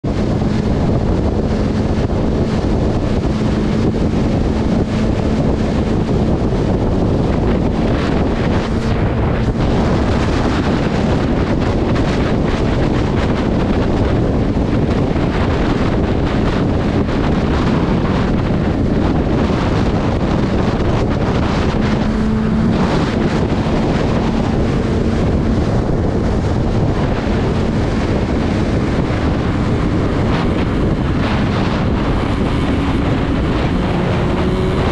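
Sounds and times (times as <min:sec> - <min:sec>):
motorcycle engine humming: 0:00.0 - 0:34.9
wind rushing over microphone: 0:00.0 - 0:34.9.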